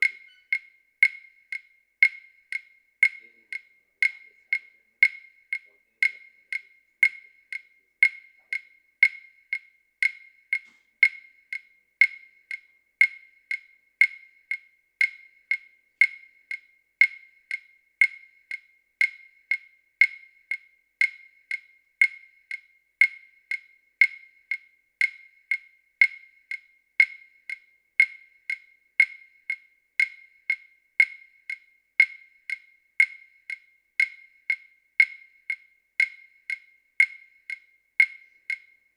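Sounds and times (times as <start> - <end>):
mechanical ticking clicks: 0.0 - 38.8.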